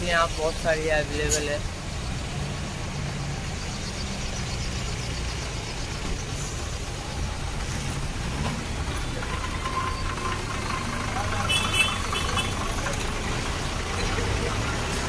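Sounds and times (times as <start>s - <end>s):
bus engines idling: 0.0s - 15.0s.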